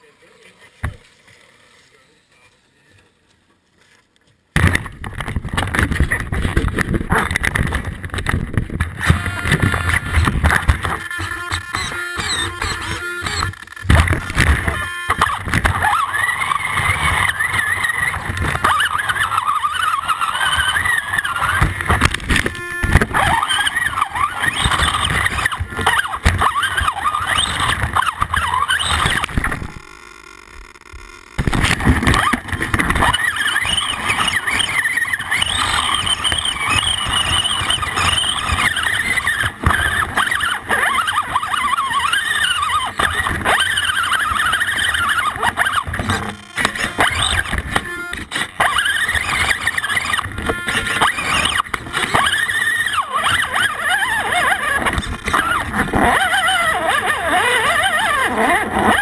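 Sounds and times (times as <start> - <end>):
toy car electric motor whining: 8.9 - 59.0.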